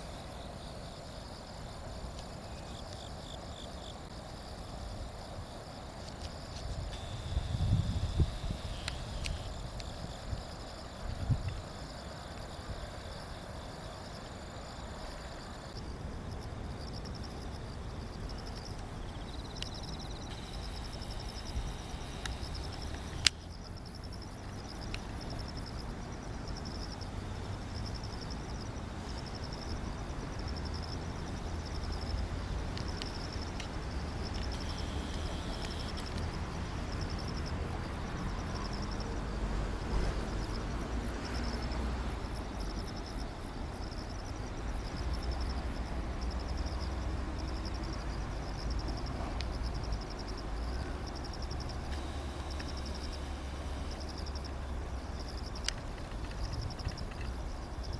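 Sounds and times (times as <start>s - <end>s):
insects chirping: 0.0s - 57.9s.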